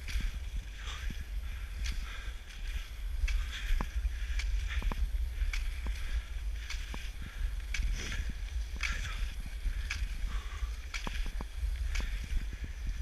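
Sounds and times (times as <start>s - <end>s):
ski pole plants: 0.0s - 13.0s
skis scraping over snow: 0.0s - 13.0s
wind buffeting microphone: 0.0s - 13.0s.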